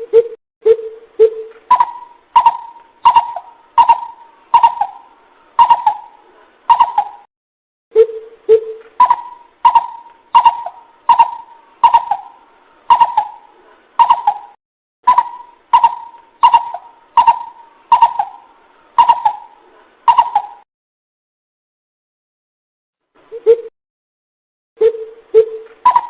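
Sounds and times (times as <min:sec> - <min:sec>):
bird giving hollow hoots: 0:00.0 - 0:07.3, 0:08.0 - 0:20.6, 0:24.8 - 0:26.0.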